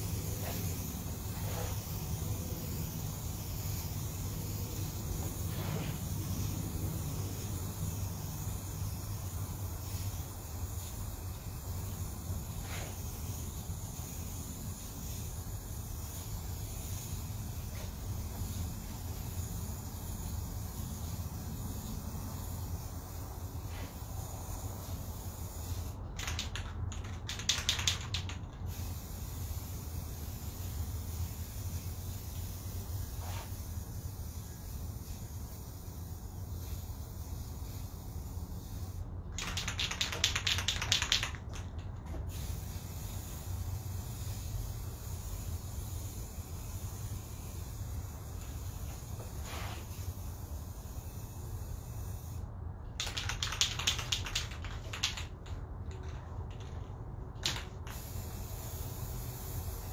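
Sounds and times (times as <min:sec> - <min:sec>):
spray-paint can hissing: 0:00.0 - 0:59.9.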